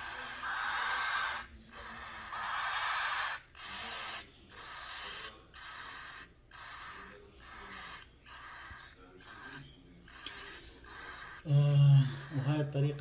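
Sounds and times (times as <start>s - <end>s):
cockatiel chicks begging calls: 0.0s - 13.0s.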